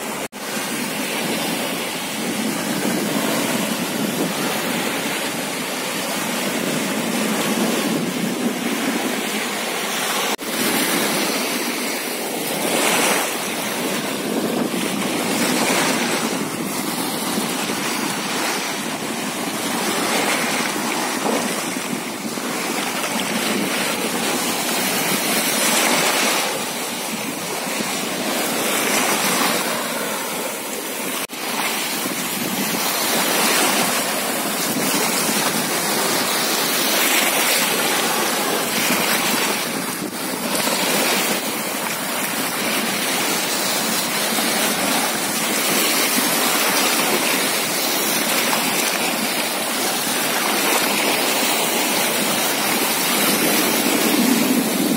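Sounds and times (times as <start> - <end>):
small waves breaking on shore: 0.0 - 54.9.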